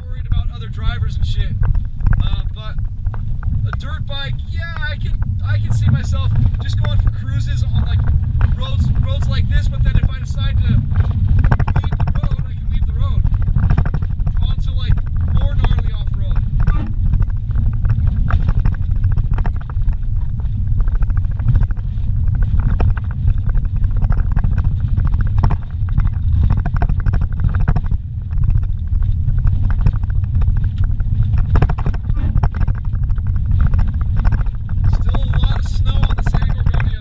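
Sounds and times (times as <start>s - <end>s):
rattles and knocks: 0.0s - 37.0s
vehicle rumble inside cab: 0.0s - 37.0s.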